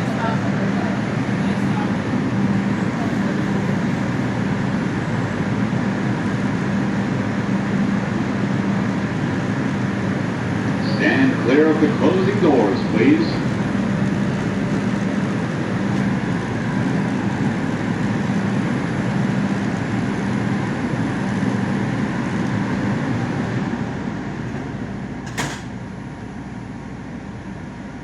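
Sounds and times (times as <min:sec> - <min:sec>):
subway car rumble and hum: 0:00.0 - 0:28.0.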